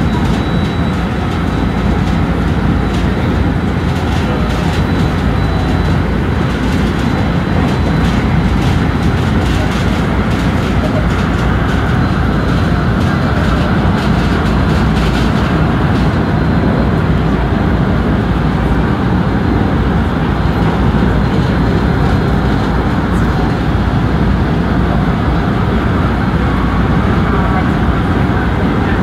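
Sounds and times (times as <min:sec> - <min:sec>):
passing train: 0:00.0 - 0:29.0
train traction equipment: 0:00.0 - 0:29.0
train wheels rumbling on rail: 0:00.0 - 0:29.0.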